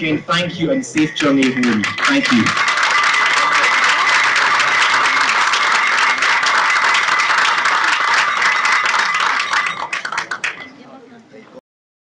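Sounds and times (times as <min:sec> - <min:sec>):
audience applauding: 0:01.0 - 0:10.7.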